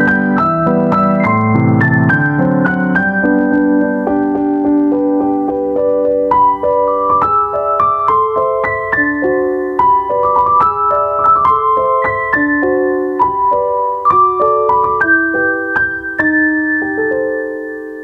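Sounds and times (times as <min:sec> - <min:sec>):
piano melody: 0:00.0 - 0:18.0.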